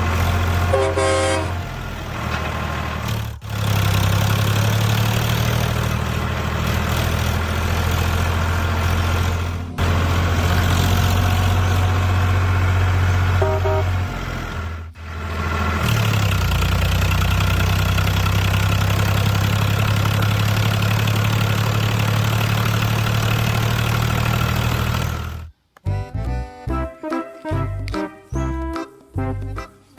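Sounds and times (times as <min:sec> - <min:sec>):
vehicle engine idling: 0:00.0 - 0:29.7.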